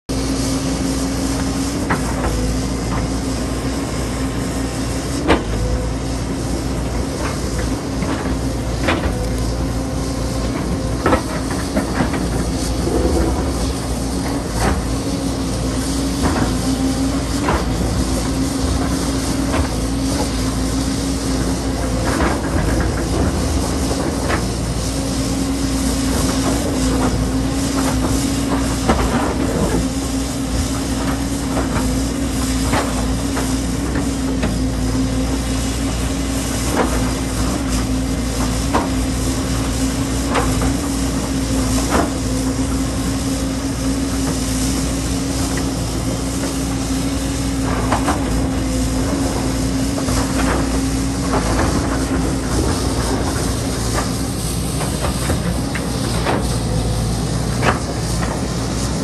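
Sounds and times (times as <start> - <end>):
excavator diesel engine drone: 0.0 - 59.0.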